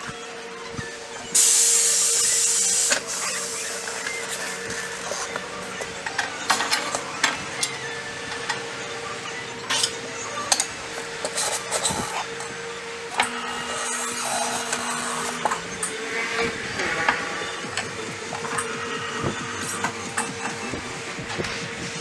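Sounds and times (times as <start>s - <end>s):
steady background hum: 0.0s - 22.0s
hand tools clicking and knocking: 1.3s - 8.8s, 9.6s - 22.0s
rubbing and scraping: 2.8s - 22.0s.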